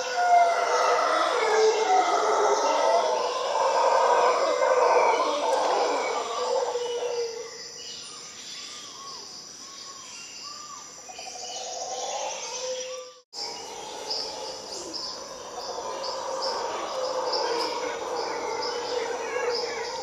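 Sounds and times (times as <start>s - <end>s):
howler monkeys roaring: 0.0s - 7.6s, 11.2s - 20.0s.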